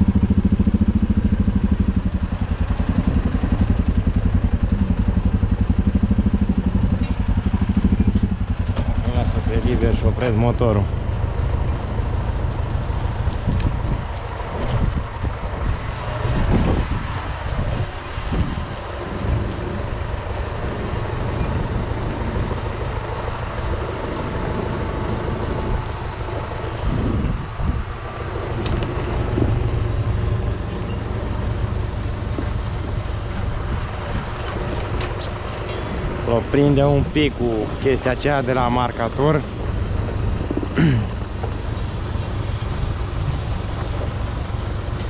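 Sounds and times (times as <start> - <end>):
machinery rattles and knocks: 0.0 - 26.9, 28.3 - 45.0
tractor diesel engine droning: 0.0 - 45.0.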